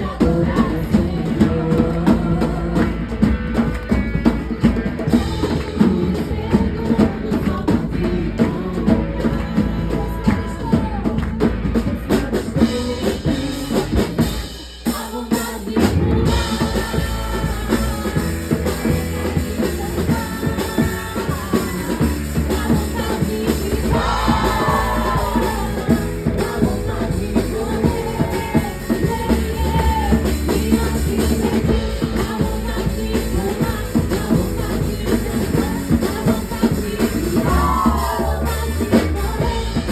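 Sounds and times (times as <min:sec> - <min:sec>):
drum kit: 0:00.0 - 0:39.9
worship song with band: 0:00.0 - 0:39.9
person singing: 0:05.0 - 0:39.9.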